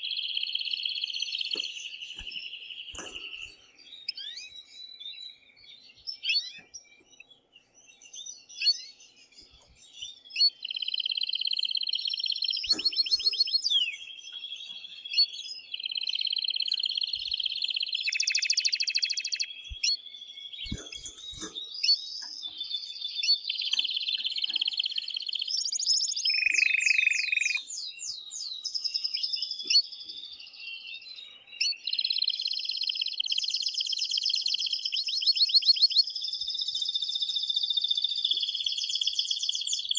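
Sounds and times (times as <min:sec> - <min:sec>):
canary singing rapid trills: 0:00.0 - 0:04.8, 0:08.5 - 0:39.9
bird chirps: 0:00.0 - 0:39.9.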